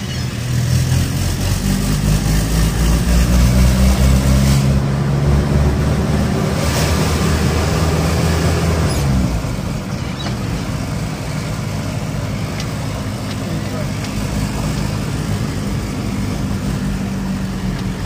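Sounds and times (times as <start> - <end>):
road and wind noise: 0.0 - 18.0
vehicle engine hum: 0.0 - 18.0.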